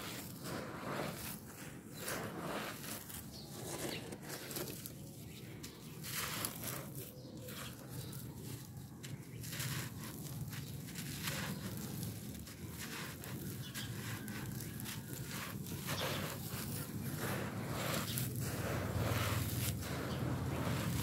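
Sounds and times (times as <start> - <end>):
dirt clods crumbling: 0.0 - 21.0
loose dirt pattering: 0.0 - 21.0.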